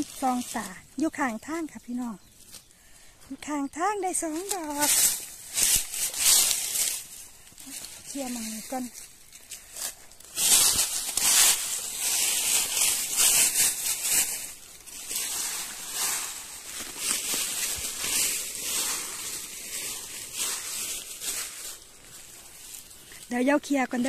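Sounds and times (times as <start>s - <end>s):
hands rustling dry leaves: 0.0s - 24.0s.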